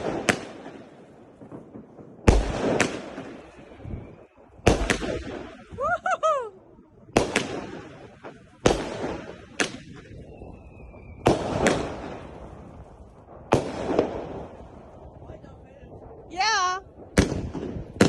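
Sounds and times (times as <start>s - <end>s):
firework bangs with echo: 0.0s - 5.8s, 7.1s - 15.3s, 16.9s - 18.0s.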